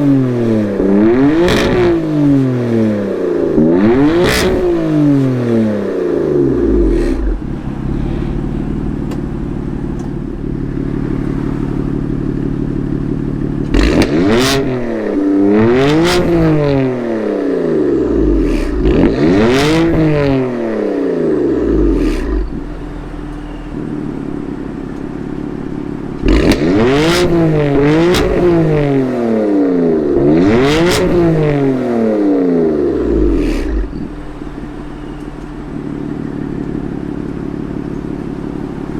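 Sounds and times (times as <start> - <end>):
car engine idling and revving: 0.0 - 38.9
exhaust cracks: 0.0 - 38.9.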